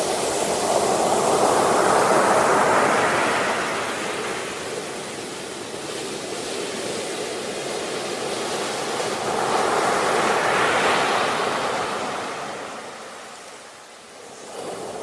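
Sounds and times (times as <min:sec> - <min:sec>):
ocean waves: 0:00.1 - 0:15.0.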